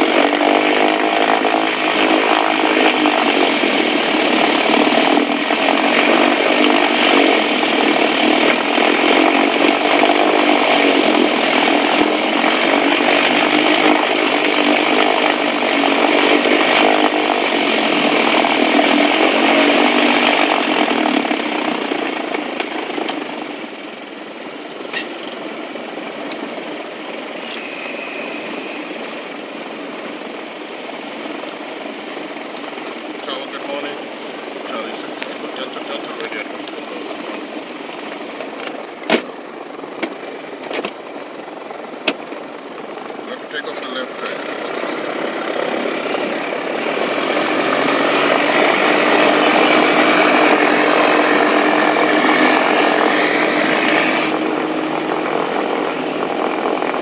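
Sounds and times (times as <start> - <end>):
twin piston aircraft engines: 0.0 - 57.0.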